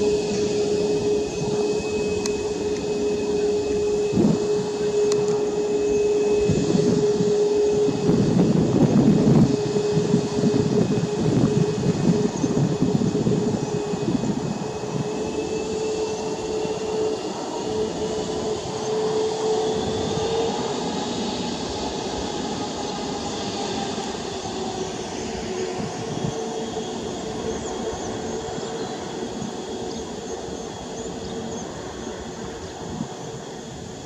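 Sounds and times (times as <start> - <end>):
aircraft rolling on ground: 0.0 - 34.0
jet engines humming: 0.0 - 34.0.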